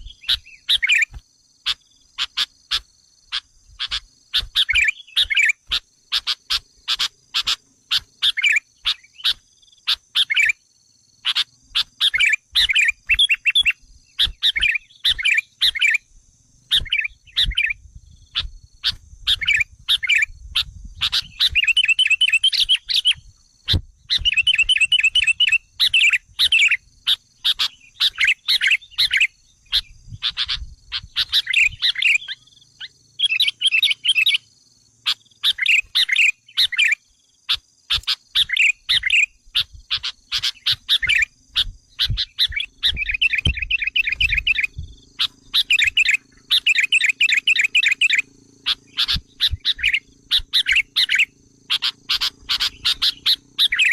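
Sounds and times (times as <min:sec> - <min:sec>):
sharp clicking bird notes: 0:00.0 - 0:10.5, 0:11.3 - 0:16.0, 0:16.7 - 0:20.3, 0:21.0 - 0:34.4, 0:35.1 - 0:53.9
bulbuls calling: 0:00.0 - 0:10.6, 0:11.2 - 0:16.1, 0:16.7 - 0:53.9
rapid bird chattering: 0:00.0 - 0:10.6, 0:11.2 - 0:16.1, 0:16.7 - 0:53.9.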